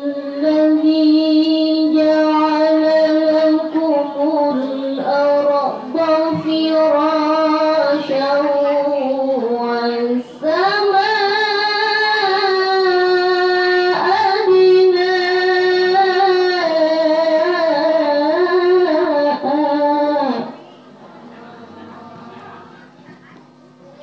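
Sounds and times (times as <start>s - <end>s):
girl chanting into a microphone: 0.0s - 20.8s.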